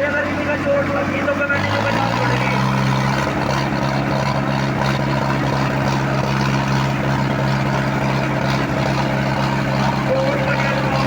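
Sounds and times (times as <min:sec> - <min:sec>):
diesel tractor engines droning: 0:00.0 - 0:11.0.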